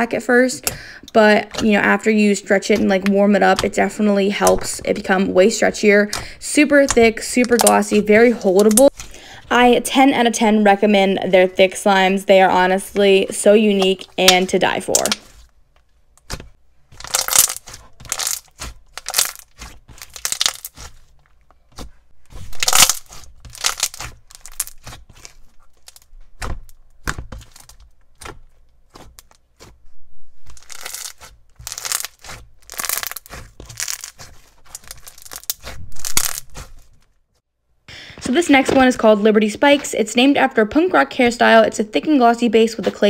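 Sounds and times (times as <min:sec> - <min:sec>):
slime squelching and crackling: 0:00.4 - 0:10.4, 0:12.0 - 0:29.8, 0:30.4 - 0:37.1.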